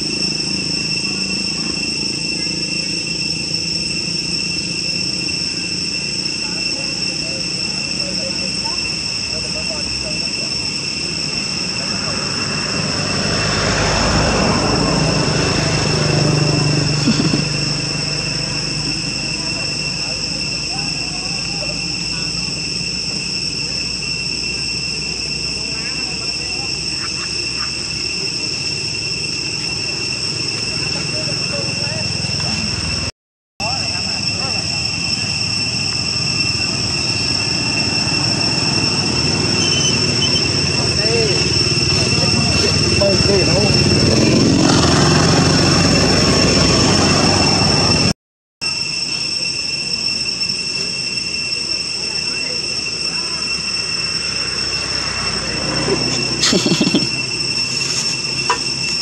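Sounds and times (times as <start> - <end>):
passing engine rumble: 0.0 - 48.2, 49.9 - 59.0
insects droning: 0.0 - 59.0.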